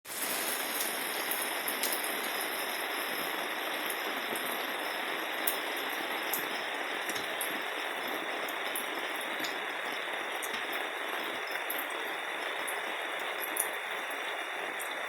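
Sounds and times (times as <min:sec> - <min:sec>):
rain falling: 0:00.1 - 0:15.0.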